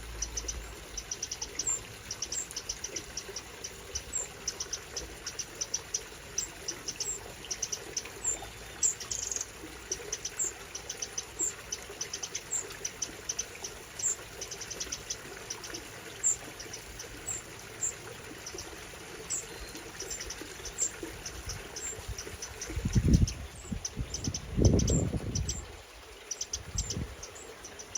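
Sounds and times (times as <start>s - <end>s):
wren ticking calls: 0.0s - 27.9s.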